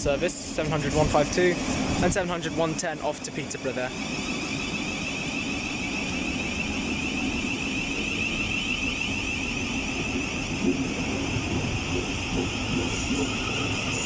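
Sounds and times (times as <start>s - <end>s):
electric train high whine: 0.0s - 14.0s
low train rumble: 0.0s - 14.0s.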